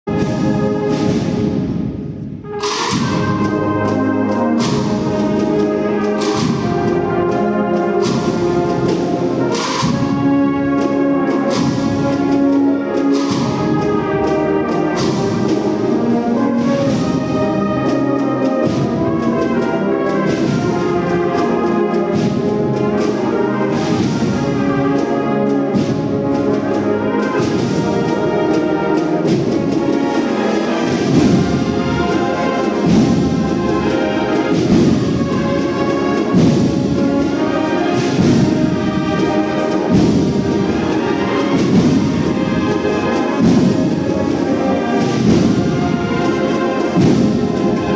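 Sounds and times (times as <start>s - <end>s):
brass band playing a march: 0.0s - 47.9s
drum beats: 0.1s - 47.9s.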